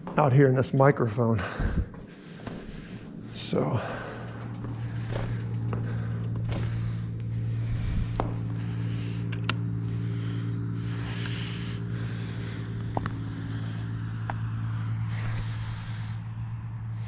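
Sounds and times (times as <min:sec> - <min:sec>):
motorcycle engine idling: 0:02.9 - 0:17.0.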